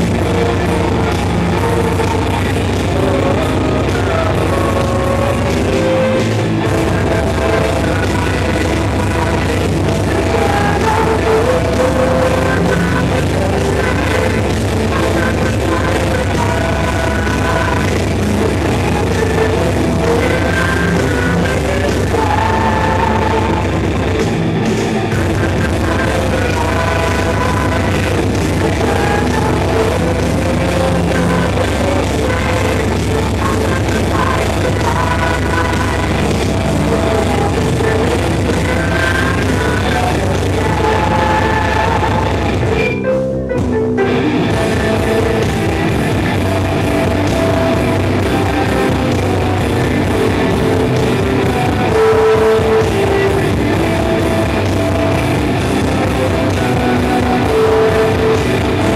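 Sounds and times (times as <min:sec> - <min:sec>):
bass: 0:00.0 - 0:58.9
distorted guitars: 0:00.0 - 0:58.9
drums: 0:00.0 - 0:58.9
person singing: 0:00.0 - 0:58.9.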